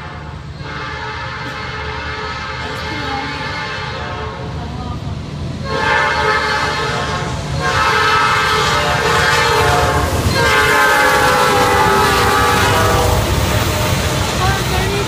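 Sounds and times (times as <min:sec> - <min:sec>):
train air horn blasts: 0:00.0 - 0:04.5, 0:05.6 - 0:14.4
locomotive engines rumbling: 0:00.0 - 0:15.0.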